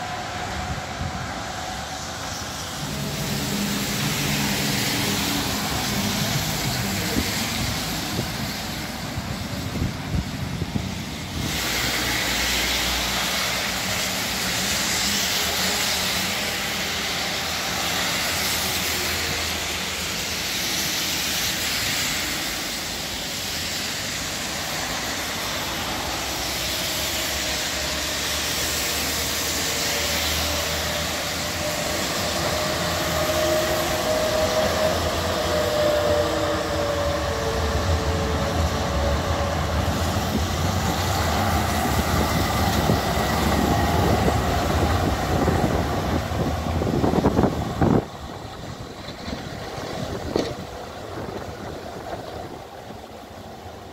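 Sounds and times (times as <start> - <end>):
bus pulling away: 0.0 - 53.9
traffic on wet road: 0.0 - 53.9
tram passing with motor whine: 0.0 - 53.9.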